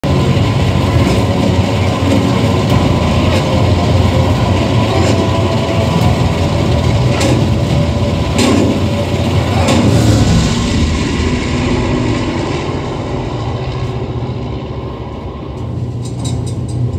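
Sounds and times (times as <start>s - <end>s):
propeller aircraft engine drone: 0.0s - 16.9s.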